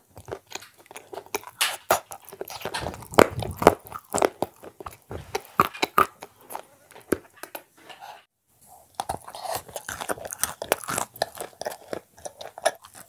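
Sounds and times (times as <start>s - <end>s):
person chewing and crunching food: 0.0s - 13.0s.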